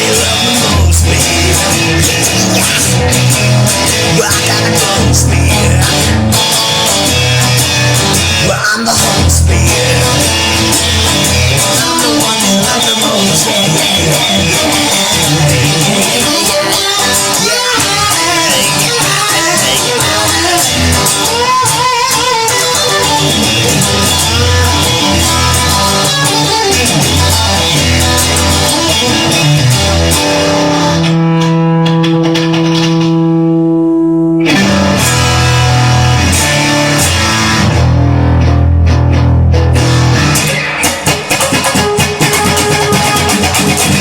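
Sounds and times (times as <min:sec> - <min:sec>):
instrumental rock music: 0:00.0 - 0:44.0.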